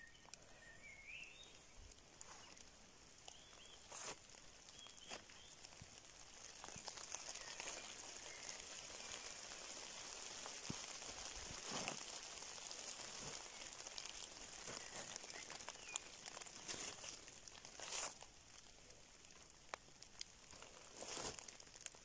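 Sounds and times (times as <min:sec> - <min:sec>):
drizzle pattering on leaves: 0:00.0 - 0:22.0
footsteps rustling through leaves: 0:01.3 - 0:22.0.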